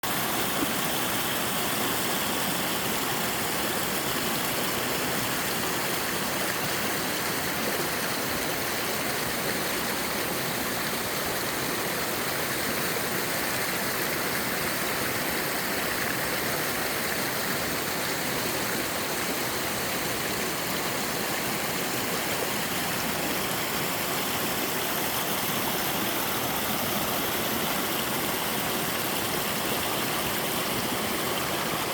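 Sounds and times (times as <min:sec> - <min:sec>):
waterfall rushing over rock: 0:00.0 - 0:31.9.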